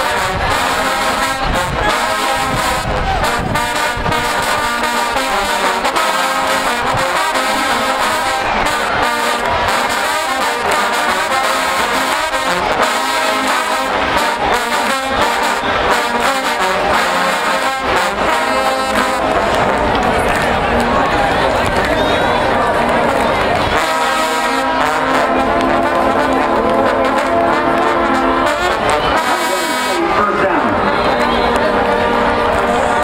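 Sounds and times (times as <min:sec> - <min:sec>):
brass band backing: 0:00.0 - 0:33.0
trombones playing in unison: 0:00.0 - 0:33.0.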